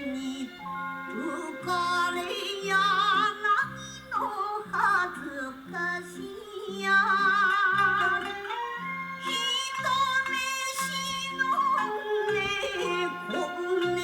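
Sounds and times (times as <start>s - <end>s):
woman singing with vibrato: 0.0s - 14.0s.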